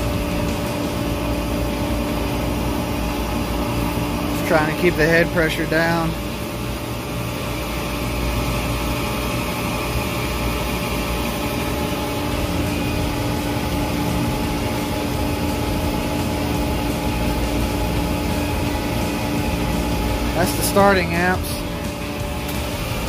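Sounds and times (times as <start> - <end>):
chiller humming with steady tones: 0.0 - 23.0.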